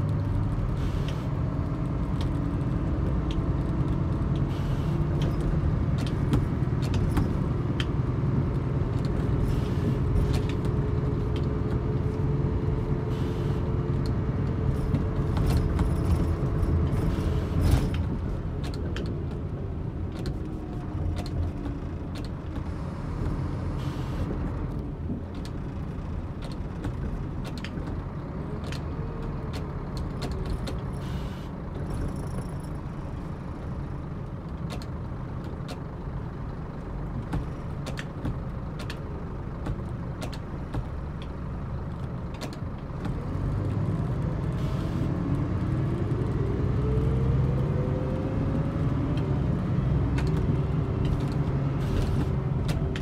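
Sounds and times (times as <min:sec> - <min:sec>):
bus engine from inside cabin: 0:00.0 - 0:53.0.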